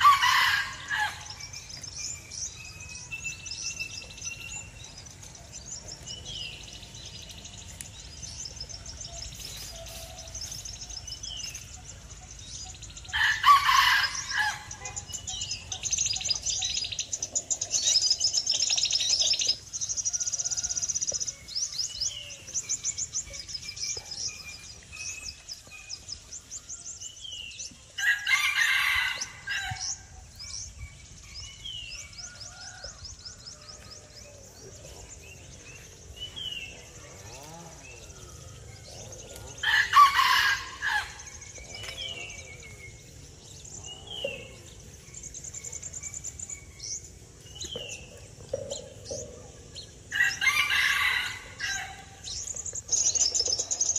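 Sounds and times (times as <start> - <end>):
birds chirping: 0.0 - 53.9
loud bird calls: 0.0 - 53.9.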